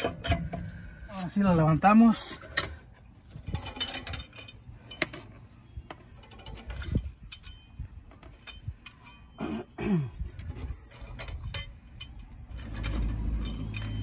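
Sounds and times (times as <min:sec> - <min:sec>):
lug wrench clinking and rattling: 0:00.0 - 0:14.0.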